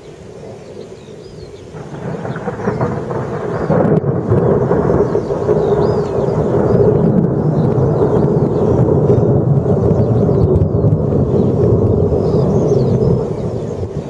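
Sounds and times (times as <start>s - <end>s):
rolling thunder: 1.3s - 14.0s.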